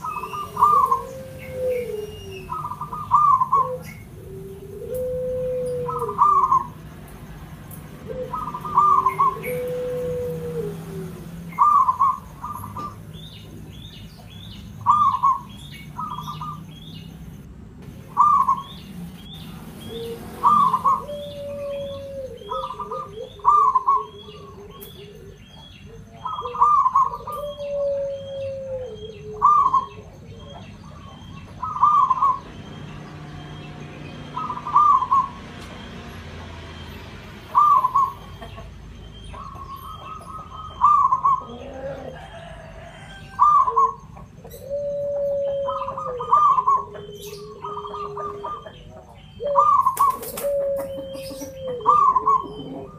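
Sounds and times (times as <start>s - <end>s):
small bird chirping: 0.0s - 10.0s, 11.3s - 52.9s
dove cooing: 0.0s - 52.9s.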